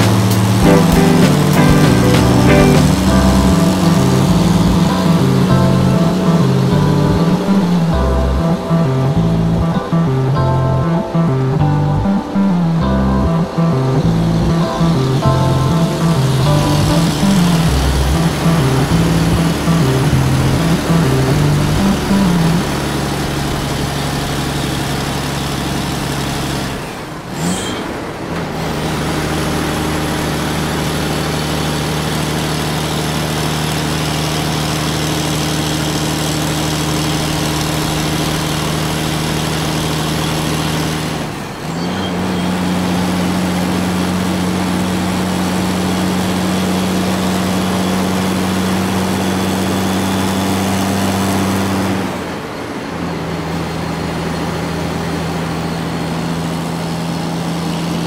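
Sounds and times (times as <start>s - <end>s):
heavy truck engine running: 0.0s - 58.0s.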